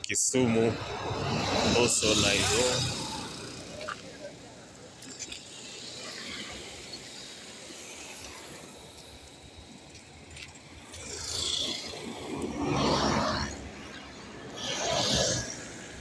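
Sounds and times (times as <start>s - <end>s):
distant traffic hum: 0.0s - 16.0s
vehicles passing close by: 0.0s - 16.0s.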